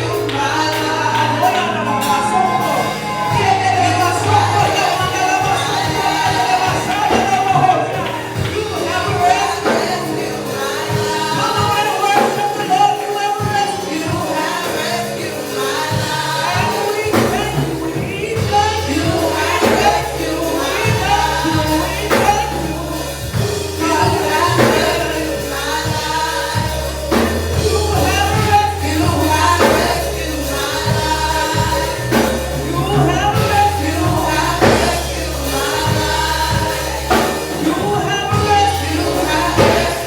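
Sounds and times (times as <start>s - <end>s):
band with bass and beat: 0.0s - 40.0s
gospel singing: 0.0s - 40.0s.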